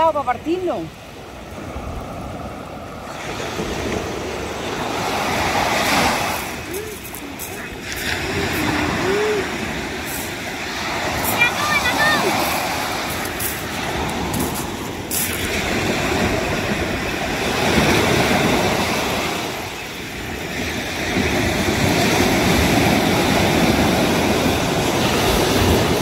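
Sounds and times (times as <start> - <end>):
surf breaking on beach: 1.5 - 26.0.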